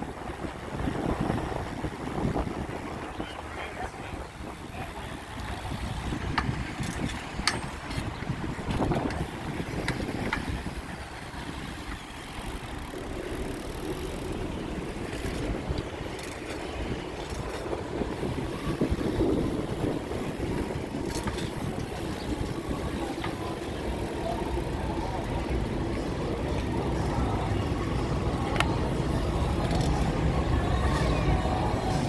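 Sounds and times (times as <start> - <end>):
wind and road noise rumble: 0.0 - 32.0.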